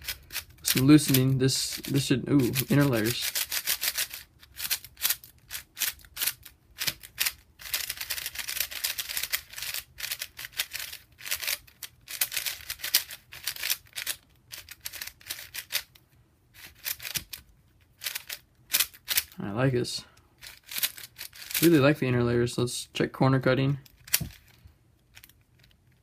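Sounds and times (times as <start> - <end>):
puzzle cube turning clicks: 0.0 - 16.0, 16.6 - 19.4, 20.4 - 21.6, 23.8 - 26.0.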